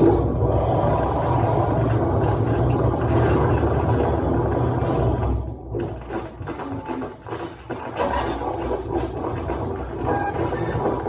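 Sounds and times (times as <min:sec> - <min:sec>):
electronic noise drone: 0:00.0 - 0:11.0.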